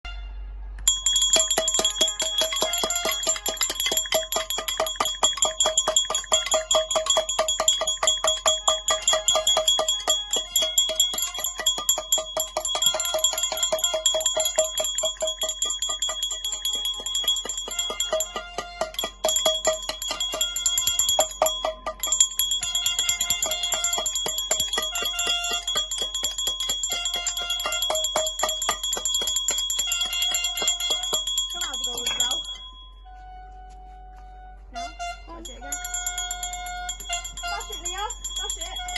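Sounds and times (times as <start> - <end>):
metal pots and pans clanging: 1.0 - 32.6.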